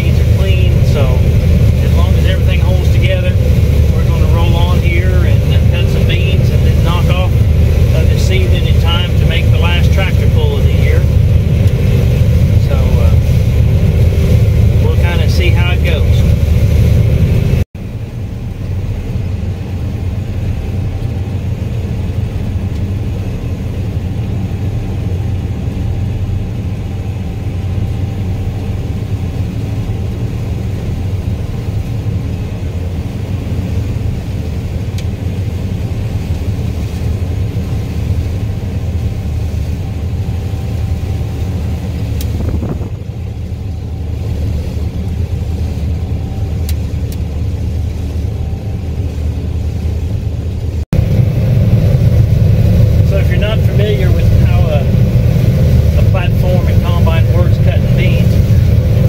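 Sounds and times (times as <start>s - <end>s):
combine engine and machinery rumbling: 0.0s - 59.0s.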